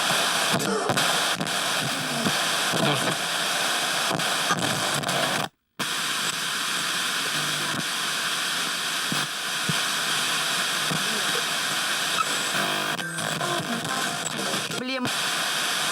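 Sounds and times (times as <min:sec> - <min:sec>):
radio static hiss: 0:00.0 - 0:15.9.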